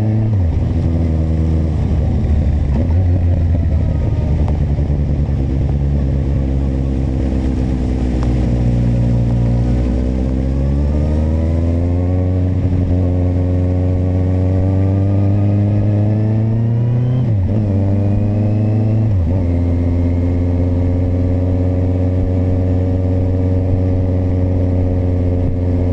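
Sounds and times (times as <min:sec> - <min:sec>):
motorcycle engine shifting gears: 0:00.0 - 0:25.9.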